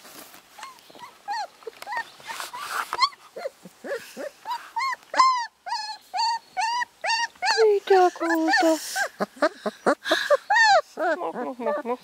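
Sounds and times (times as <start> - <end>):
puppy whimpering and whining: 0.6 - 12.0.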